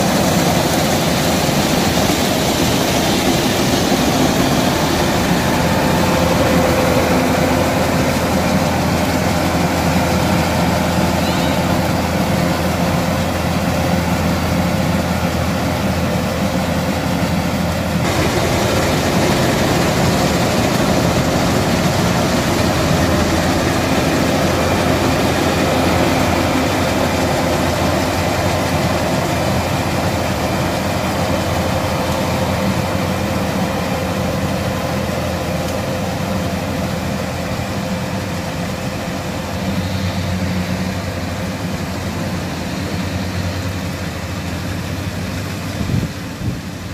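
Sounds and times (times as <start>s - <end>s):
combine harvester diesel engine: 0.0s - 46.9s
machinery whir: 0.0s - 46.9s.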